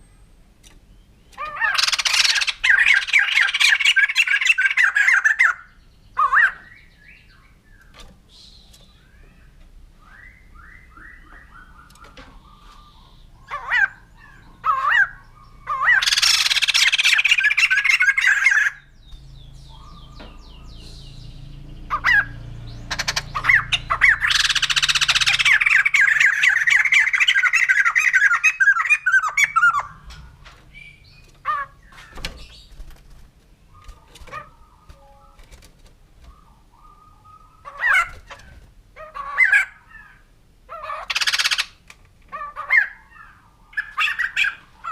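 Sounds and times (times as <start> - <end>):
bird chattering calls: 1.3 - 9.6, 10.2 - 33.0, 36.2 - 44.9.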